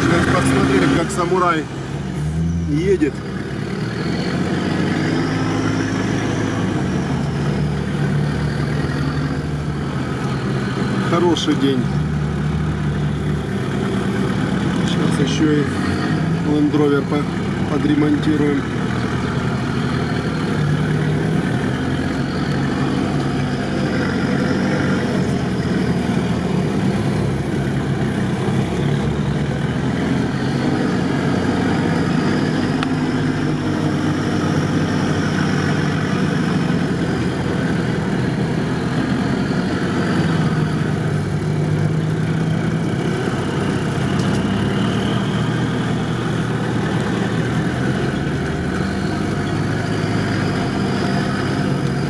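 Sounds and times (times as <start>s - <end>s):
off-road vehicle engine crawling: 0.0s - 52.0s.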